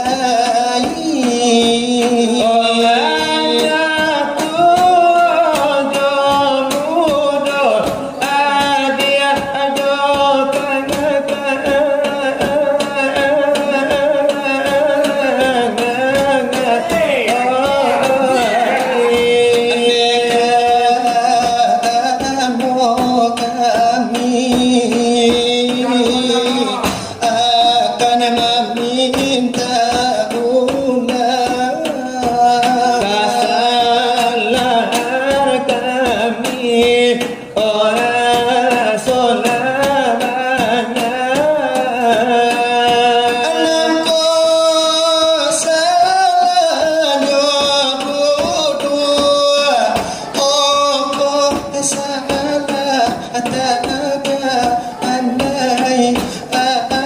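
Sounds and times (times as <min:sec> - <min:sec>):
beating on brass trays: 0:00.0 - 0:57.0
voices singing devotional lines: 0:00.0 - 0:57.0.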